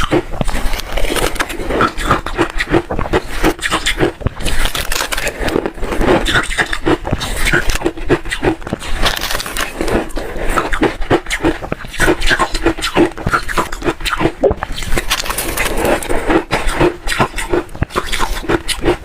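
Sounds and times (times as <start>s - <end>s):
ice crunching between teeth: 0.0s - 19.0s.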